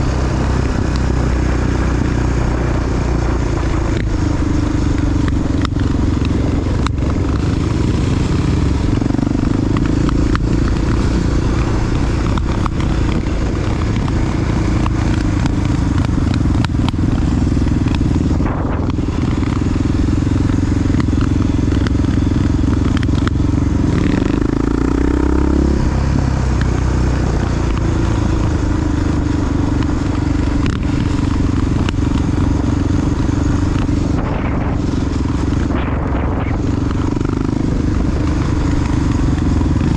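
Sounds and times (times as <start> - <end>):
engine clatter: 0.0 - 39.9
motorcycle engine running: 0.0 - 39.9.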